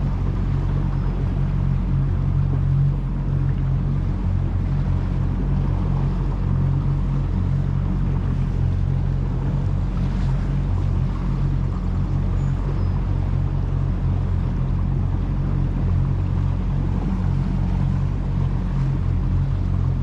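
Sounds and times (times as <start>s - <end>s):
motorboat engine humming: 0.0s - 20.0s
water wash: 0.0s - 20.0s.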